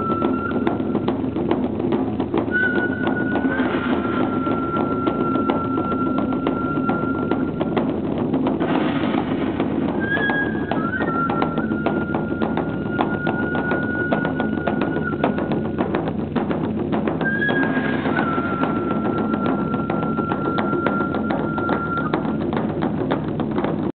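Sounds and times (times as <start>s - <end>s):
bamboo flute: 0.0s - 8.6s, 9.5s - 23.9s
clacking percussion: 0.0s - 23.9s.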